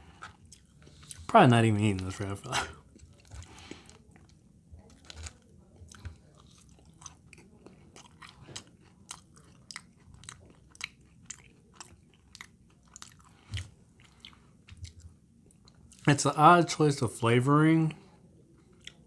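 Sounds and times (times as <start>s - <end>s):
person chewing food: 0.0s - 16.1s, 18.5s - 19.0s.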